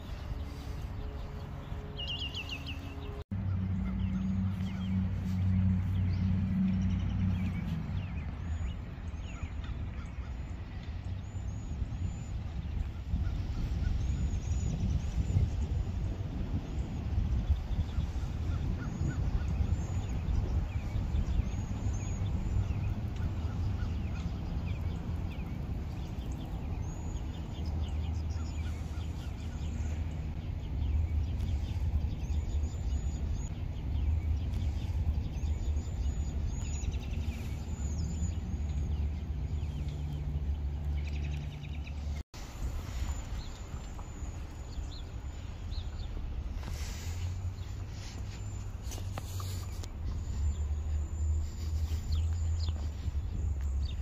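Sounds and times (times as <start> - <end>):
small birds chirping: 0.0 - 54.0
steady low rumble: 0.0 - 54.0.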